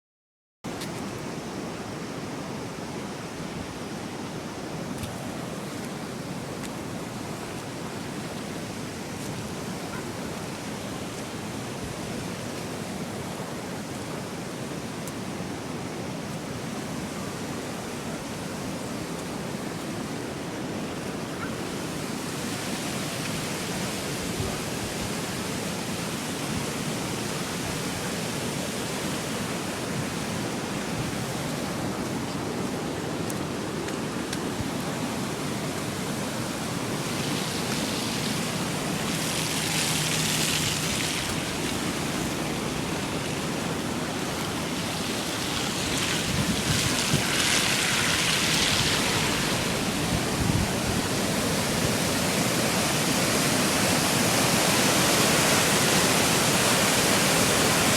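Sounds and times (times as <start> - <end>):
flooded river roaring: 0.7 - 57.9.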